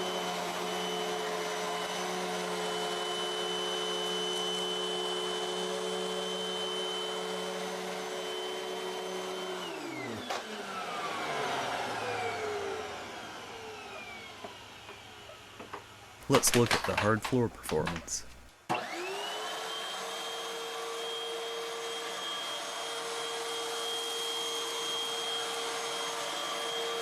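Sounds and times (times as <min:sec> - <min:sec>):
vacuum cleaner motor whine: 0:00.0 - 0:15.5, 0:18.7 - 0:27.0.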